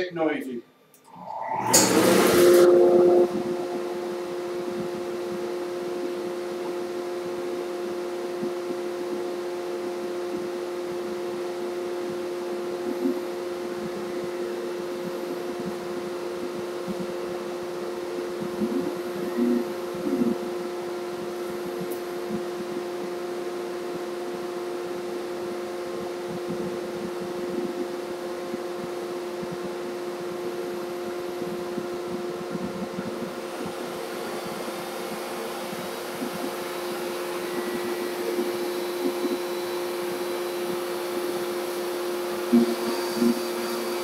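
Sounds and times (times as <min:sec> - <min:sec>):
machine humming: 0:01.0 - 0:44.0
dust collector running: 0:01.1 - 0:44.0.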